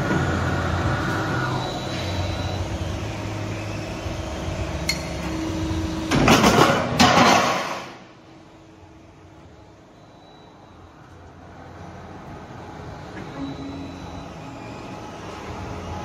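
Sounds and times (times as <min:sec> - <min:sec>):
machine motor hum: 0:00.0 - 0:07.0, 0:08.2 - 0:16.0.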